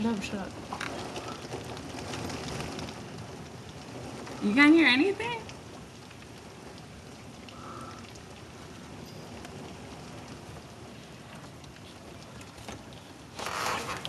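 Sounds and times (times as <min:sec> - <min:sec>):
heavy rain pattering: 0:00.0 - 0:14.0
water drips: 0:00.0 - 0:14.0.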